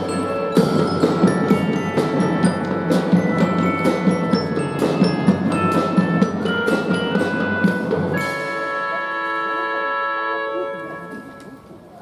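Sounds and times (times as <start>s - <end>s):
drum and fife band playing: 0.0s - 11.4s.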